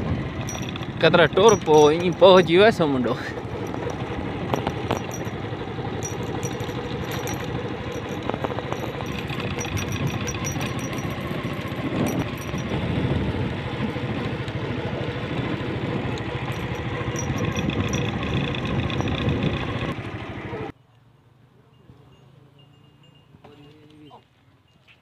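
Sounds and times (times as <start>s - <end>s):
vehicle engine running: 0.0s - 20.7s.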